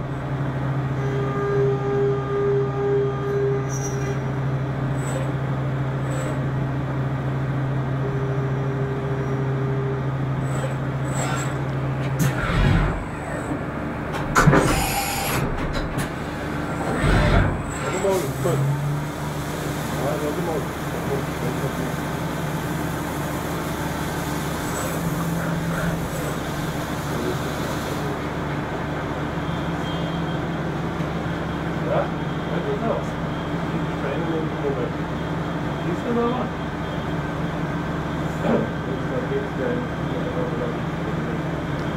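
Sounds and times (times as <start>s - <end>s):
machining centre humming: 0.0s - 41.9s.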